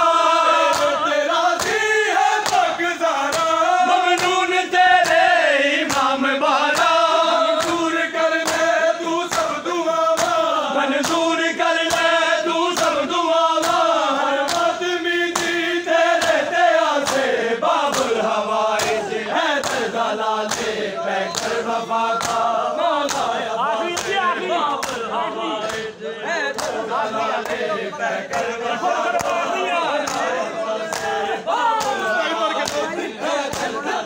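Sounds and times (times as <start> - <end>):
men chanting in unison: 0.0 - 34.0
hands slapping bare chests: 0.6 - 4.4, 5.0 - 8.7, 9.3 - 25.9, 26.5 - 27.6, 28.3 - 33.8.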